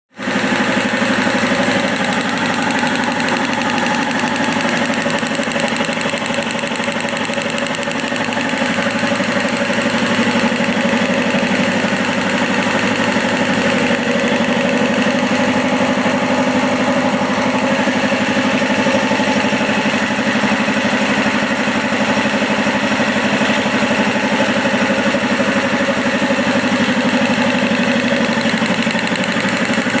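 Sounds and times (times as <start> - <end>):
air compressor humming: 0.2 - 30.0.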